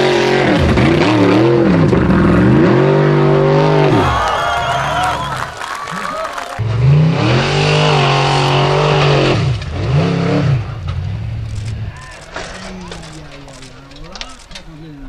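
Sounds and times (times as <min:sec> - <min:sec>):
offroad car engine revving: 0:00.0 - 0:14.6.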